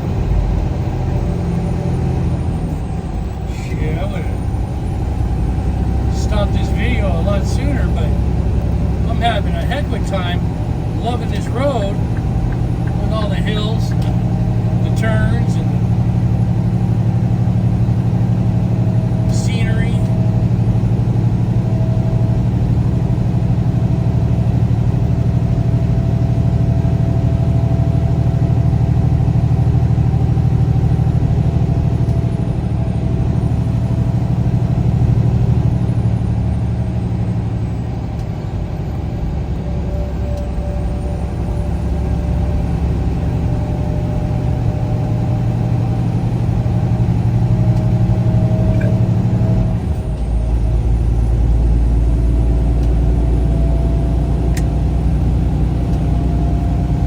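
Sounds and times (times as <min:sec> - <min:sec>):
vehicle engine and road drone: 0:00.0 - 0:57.0.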